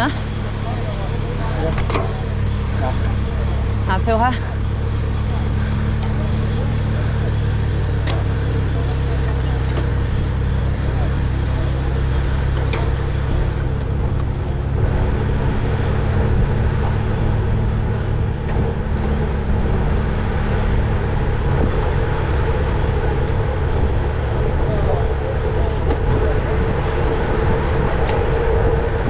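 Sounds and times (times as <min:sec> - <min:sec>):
rolling road noise: 0:00.0 - 0:29.0
wind rumble on microphone: 0:00.0 - 0:29.0.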